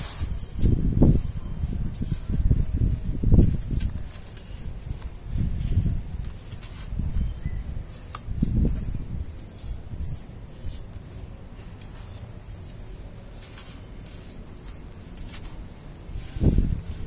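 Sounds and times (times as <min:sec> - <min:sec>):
sand grains trickling: 0:00.0 - 0:17.0
soft sand crunches: 0:00.0 - 0:17.0.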